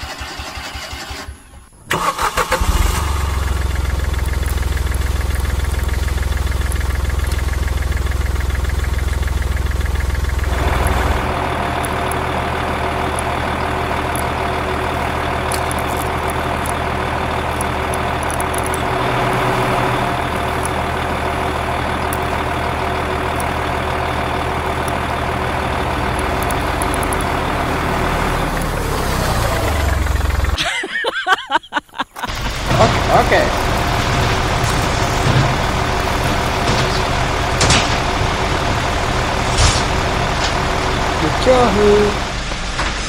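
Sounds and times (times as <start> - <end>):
heavy truck engine idling: 0.0 - 43.0.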